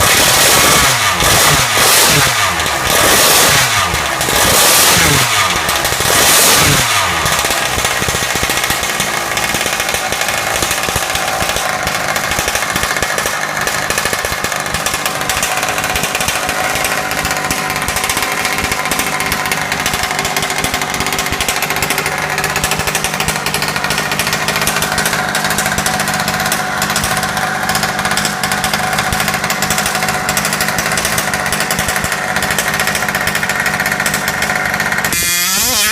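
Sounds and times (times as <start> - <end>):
two-stroke engine revving and idling: 0.0 - 35.9.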